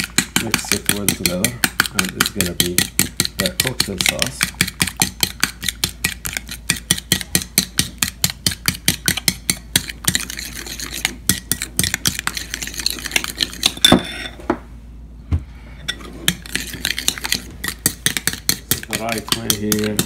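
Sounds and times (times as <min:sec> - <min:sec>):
metal spoon stirring in glass bowl: 0:00.0 - 0:14.4, 0:15.9 - 0:20.0.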